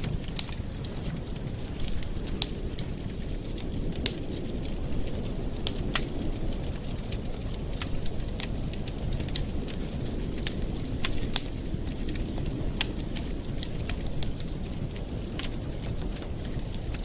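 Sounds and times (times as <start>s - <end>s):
campfire low rumble: 0.0s - 17.0s
wood crackling and popping: 0.0s - 17.0s.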